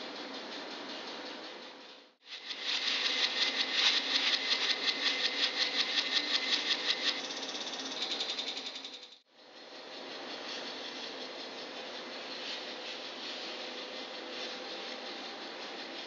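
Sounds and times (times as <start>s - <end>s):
rapid mechanical clatter: 0.0s - 16.0s
steady mechanical hum: 0.0s - 16.0s.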